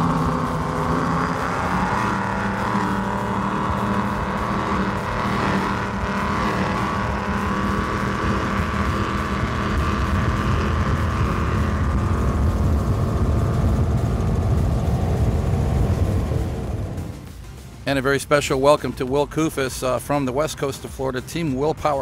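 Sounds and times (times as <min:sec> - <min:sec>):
powerboat engines running: 0:00.0 - 0:22.0.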